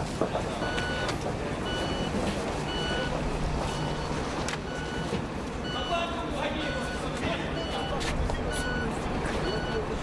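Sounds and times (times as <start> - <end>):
reversing alarm beeping: 0.6 - 10.0.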